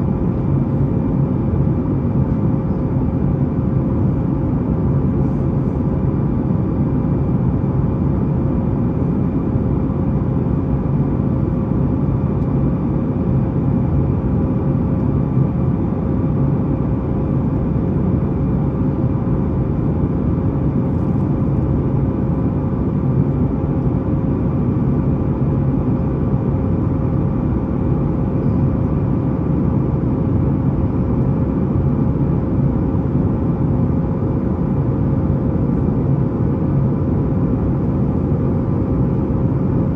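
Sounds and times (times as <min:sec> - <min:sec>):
airplane cabin engine rumble: 0:00.0 - 0:39.9
steady hum tone: 0:00.0 - 0:39.9.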